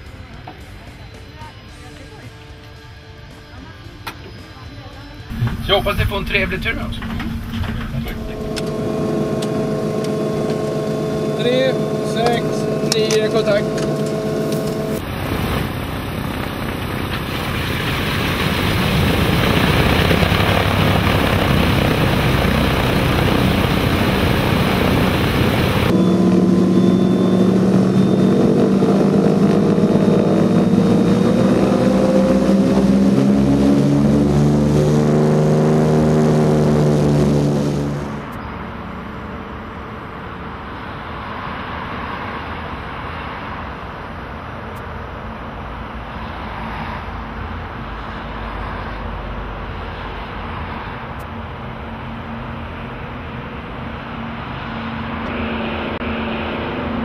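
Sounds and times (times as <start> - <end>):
propeller engines droning: 0.0 - 57.0.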